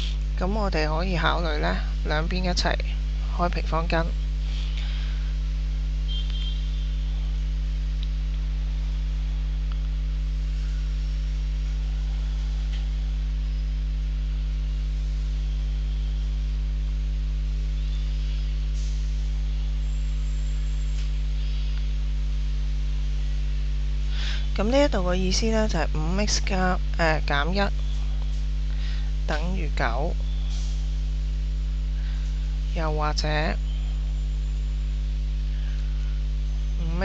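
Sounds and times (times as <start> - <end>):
low electrical mains hum: 0.0 - 37.0.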